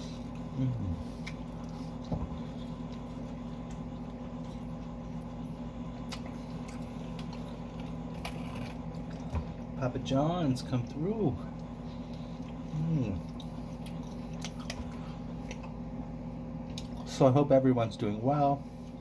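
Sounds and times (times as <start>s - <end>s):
chewing pizza: 0.0s - 17.4s
steady low hum: 0.0s - 19.0s.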